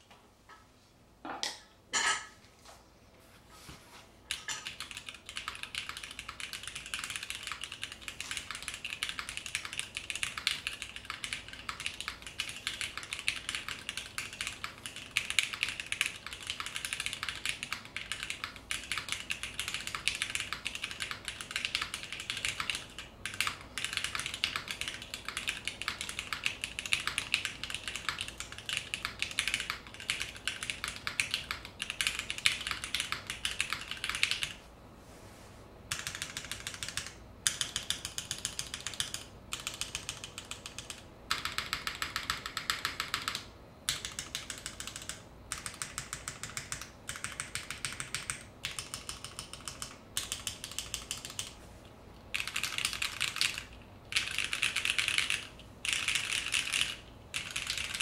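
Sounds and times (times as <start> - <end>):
fast typing on mechanical keyboard: 4.3 - 34.6, 35.9 - 51.6, 52.3 - 58.0.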